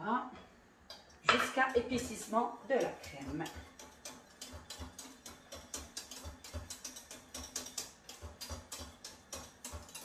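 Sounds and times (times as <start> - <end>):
utensil scraping a saucepan: 1.3 - 10.0.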